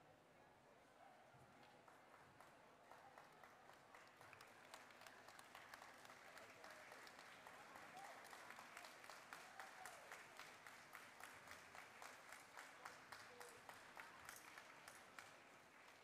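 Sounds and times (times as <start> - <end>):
audience clapping in rhythm: 1.9 - 16.0.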